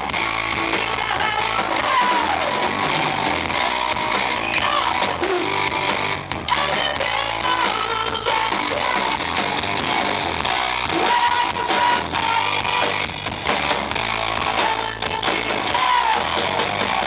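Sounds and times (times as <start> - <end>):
drum kit beat: 0.0 - 17.0
electric guitar: 0.0 - 17.0
rock band playing: 0.0 - 17.0.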